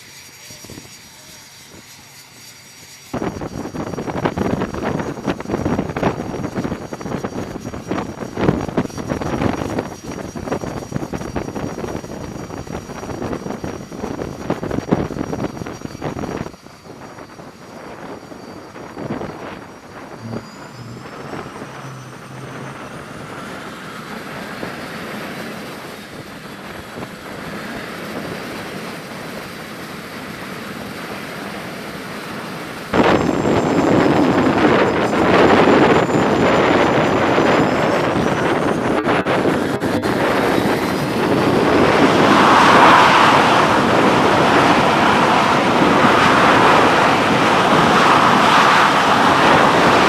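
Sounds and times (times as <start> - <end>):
high jet engine whine: 0.0 - 50.0
jet engine roar: 0.0 - 50.0.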